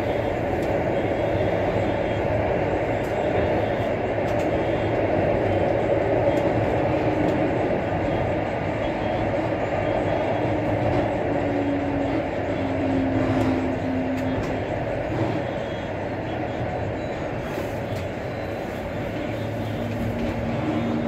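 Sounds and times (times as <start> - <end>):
low whine: 0.0 - 21.0
wheels rumbling on rail: 0.0 - 21.0.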